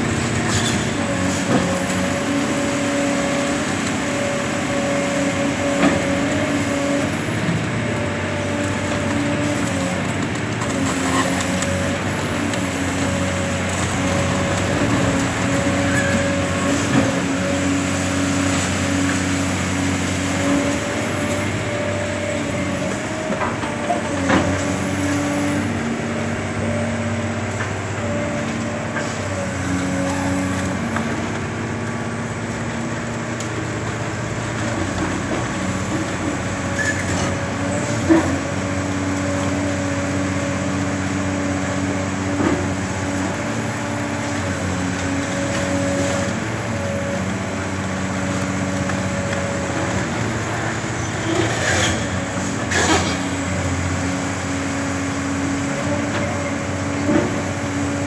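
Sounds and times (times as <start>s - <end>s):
diesel excavator engine running: 0.0s - 58.0s.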